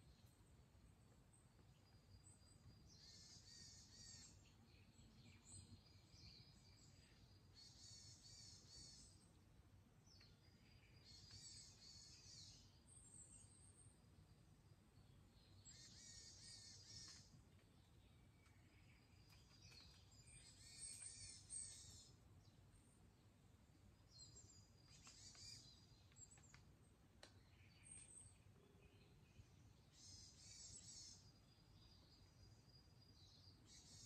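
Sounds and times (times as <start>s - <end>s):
songbird singing: 0.0s - 34.0s
faint bird calls: 1.5s - 9.4s, 10.1s - 13.9s, 15.5s - 22.6s, 24.1s - 26.7s, 27.3s - 32.6s, 33.2s - 34.0s.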